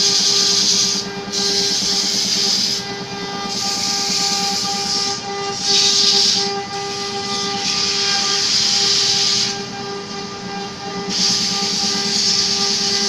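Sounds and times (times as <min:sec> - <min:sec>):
sandpaper hissing on spinning wood: 0:00.0 - 0:09.7, 0:10.4 - 0:13.0
wood lathe motor hum: 0:00.0 - 0:13.0.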